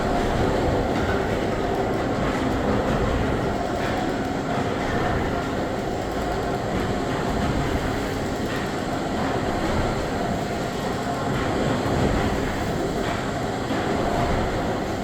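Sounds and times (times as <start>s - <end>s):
steam engine rumbling and clattering: 0.0s - 15.0s.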